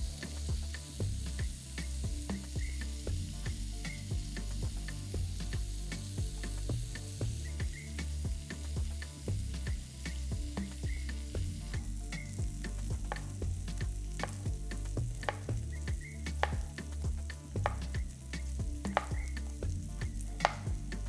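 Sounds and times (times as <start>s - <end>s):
vegetables sizzling in frying pan: 0.0s - 20.9s.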